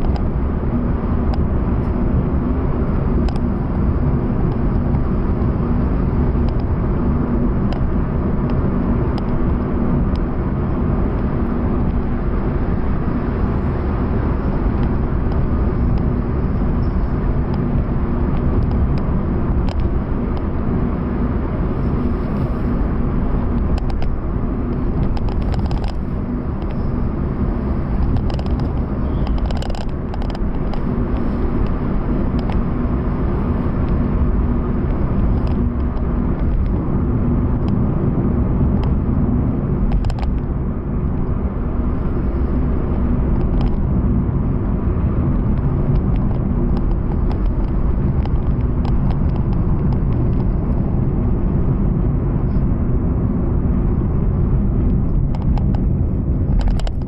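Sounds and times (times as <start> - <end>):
car engine cruising: 0.0 - 57.0.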